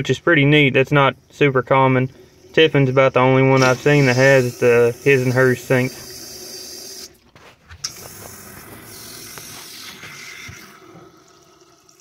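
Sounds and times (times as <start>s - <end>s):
thin stream into sink: 1.0s - 7.2s, 7.9s - 12.0s.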